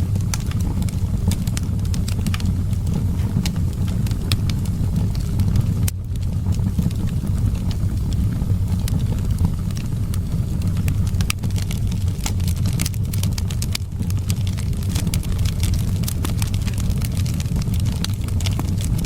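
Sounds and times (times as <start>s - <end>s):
wind rumbling: 0.0s - 19.0s
wood fire crackling and popping: 0.0s - 19.0s.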